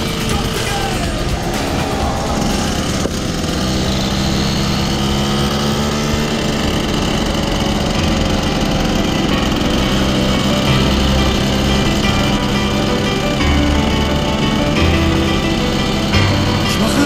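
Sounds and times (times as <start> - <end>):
two-stroke moped engine running: 3.1 - 17.0.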